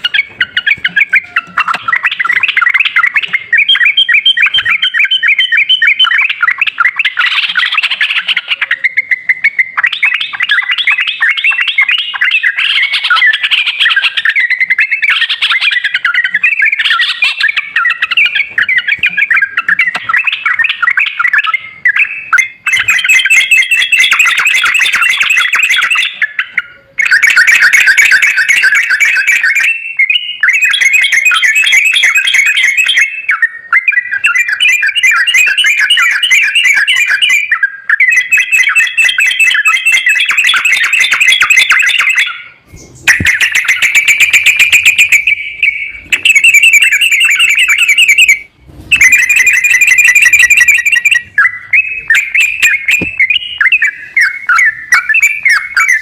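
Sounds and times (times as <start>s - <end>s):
bird chattering trilled song: 0.0s - 56.0s.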